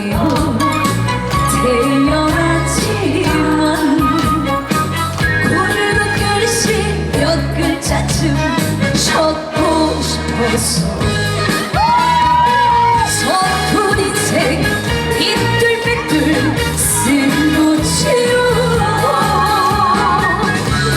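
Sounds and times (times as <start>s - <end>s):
backing band track with beat: 0.0s - 20.9s
woman singing: 0.0s - 20.9s.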